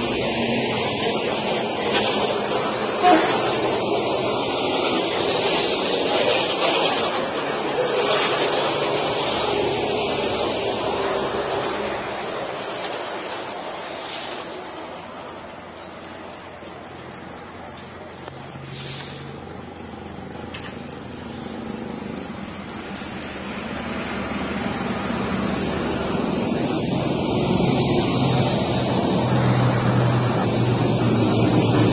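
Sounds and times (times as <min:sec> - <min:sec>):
crickets chirping: 0:00.0 - 0:31.9
rumble of road traffic: 0:00.0 - 0:31.9.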